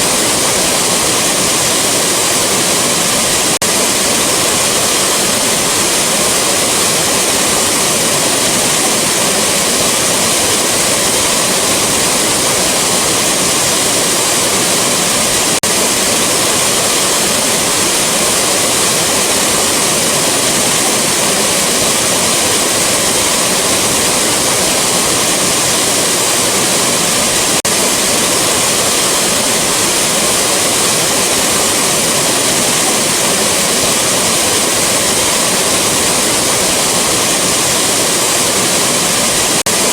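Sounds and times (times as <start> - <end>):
rushing waterfall: 0.0 - 39.9.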